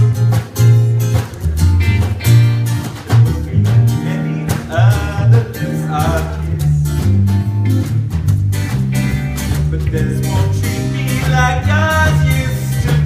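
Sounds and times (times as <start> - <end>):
bass line: 0.0 - 13.0
plucked guitar: 0.0 - 13.0.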